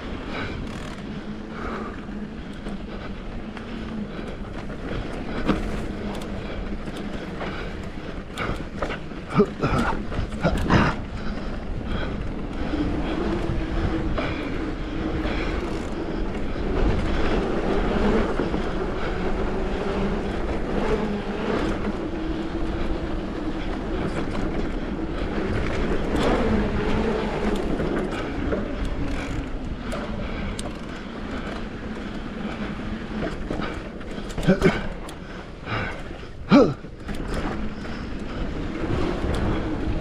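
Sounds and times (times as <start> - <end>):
bike rattling: 0.0 - 40.0
bike tyres rolling over dirt: 0.0 - 40.0.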